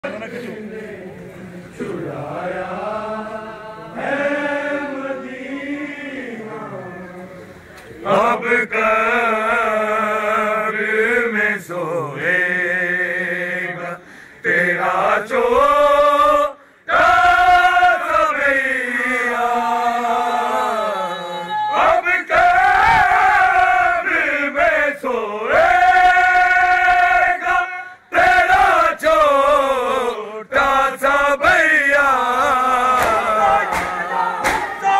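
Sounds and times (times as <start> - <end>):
men chanting a lament: 0.0 - 34.9.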